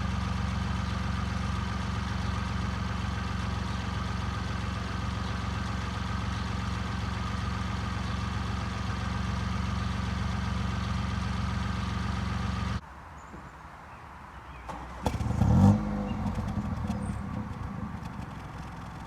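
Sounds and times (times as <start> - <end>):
car engine idling: 0.0 - 12.8, 14.7 - 19.0.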